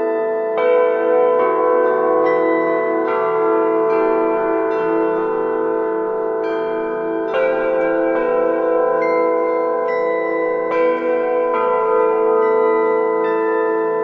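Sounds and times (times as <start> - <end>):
bronze bells ringing: 0.0 - 14.0.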